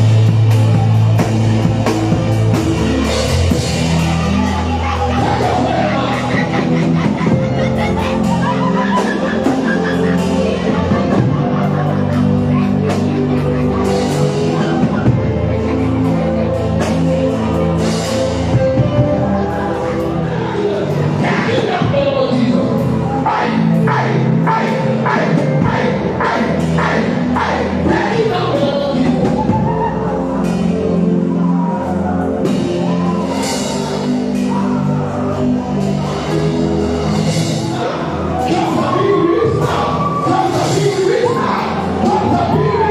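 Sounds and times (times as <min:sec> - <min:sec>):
live band music: 0:00.0 - 0:42.9.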